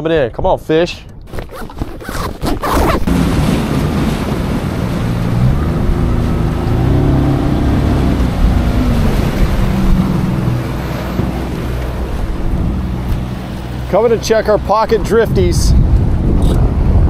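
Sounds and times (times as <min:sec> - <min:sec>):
wind buffeting microphone: 0:01.2 - 0:17.0
boat moving through choppy water: 0:01.3 - 0:17.0
outboard motor running: 0:02.6 - 0:17.0.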